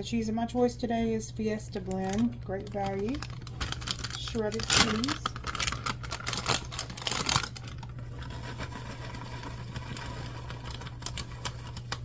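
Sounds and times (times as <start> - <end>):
steady low hum: 0.0 - 12.0
plastic bag rustling: 1.8 - 12.0.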